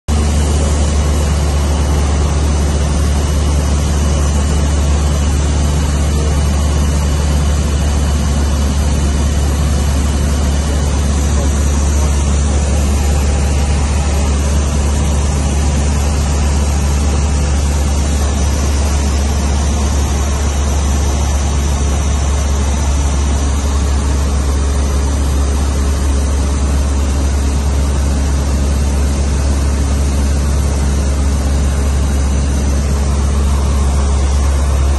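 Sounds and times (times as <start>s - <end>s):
propeller aircraft engine drone: 0.1s - 34.9s.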